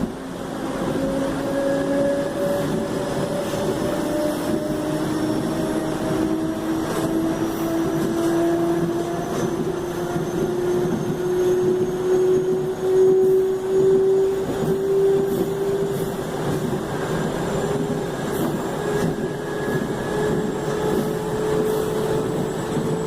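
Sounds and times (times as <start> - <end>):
rumble of running train: 0.0 - 23.0.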